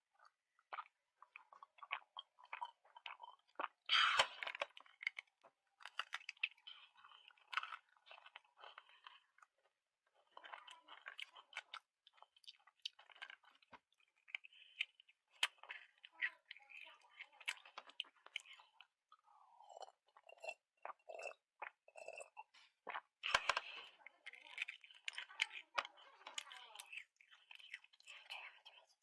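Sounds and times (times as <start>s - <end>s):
chewing crisp crunching: 0.2s - 29.0s.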